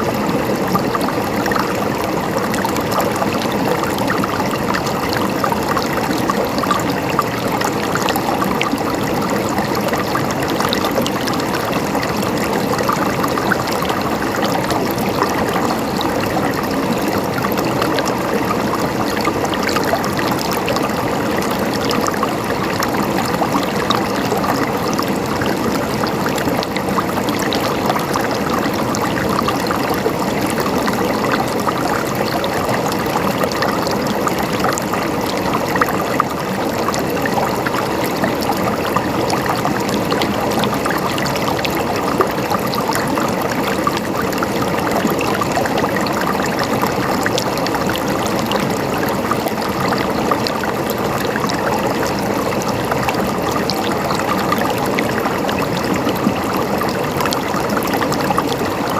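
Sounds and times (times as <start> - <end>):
running water gurgling and splashing: 0.0 - 58.9.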